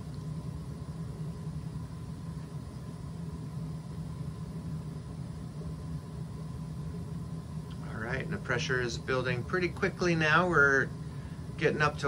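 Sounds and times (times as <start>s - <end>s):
boiler burner humming: 0.0s - 12.0s.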